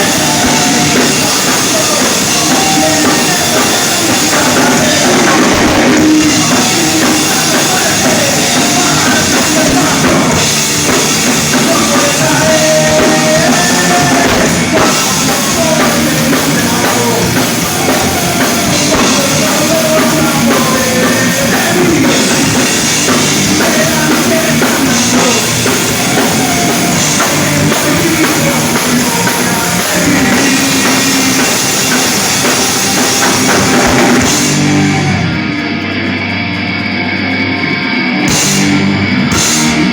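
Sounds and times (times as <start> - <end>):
drum kit: 0.0 - 39.9
electric guitars: 0.0 - 39.9
rock band playing live: 0.0 - 39.9.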